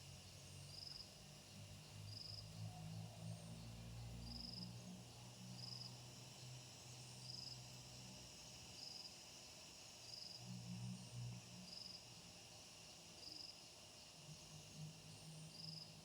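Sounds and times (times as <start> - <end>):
faint insect chirping: 0.0 - 16.0.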